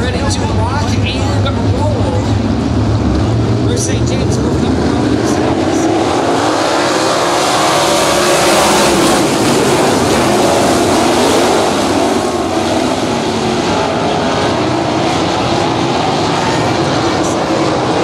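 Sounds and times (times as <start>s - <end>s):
racing car engines at full throttle: 0.0s - 18.0s.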